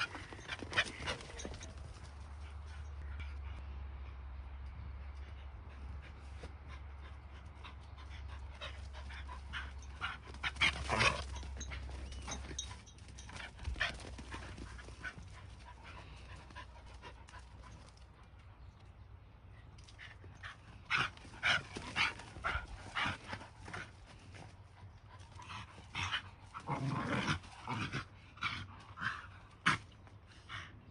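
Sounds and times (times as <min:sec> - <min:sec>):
dogs panting: 0:00.0 - 0:19.0, 0:19.7 - 0:30.9.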